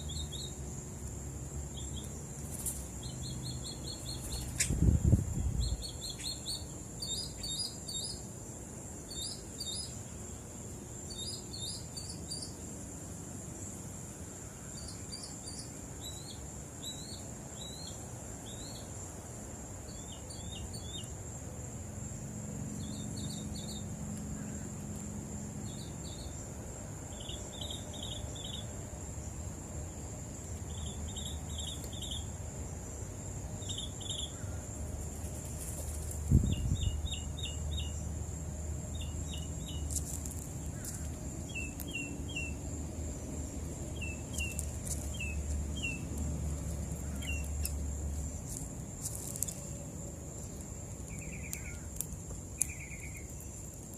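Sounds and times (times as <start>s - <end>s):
small birds chirping: 0.0s - 21.4s, 22.0s - 53.9s.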